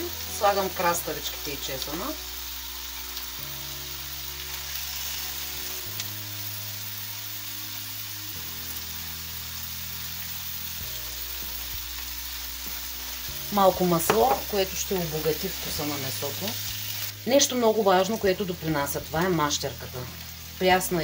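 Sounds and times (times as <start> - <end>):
onions sizzling in a frying pan: 0.0 - 21.0
soft background music: 0.0 - 21.0.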